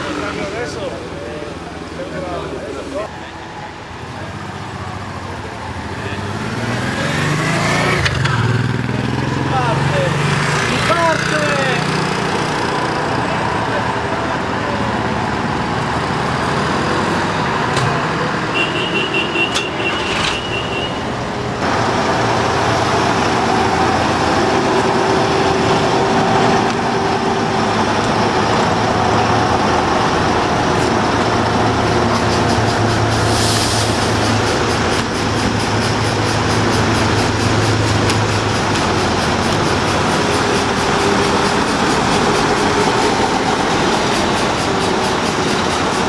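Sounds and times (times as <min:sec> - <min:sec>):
truck engines running: 0:00.0 - 0:46.0.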